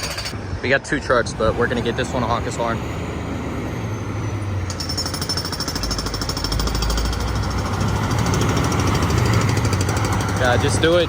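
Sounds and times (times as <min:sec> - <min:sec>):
truck diesel engine clattering: 0:01.5 - 0:11.0.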